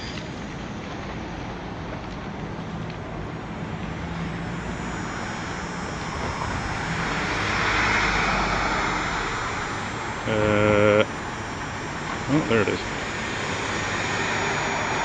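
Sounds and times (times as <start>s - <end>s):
traffic hum: 0.0s - 15.0s
vehicle passing close: 2.8s - 15.0s.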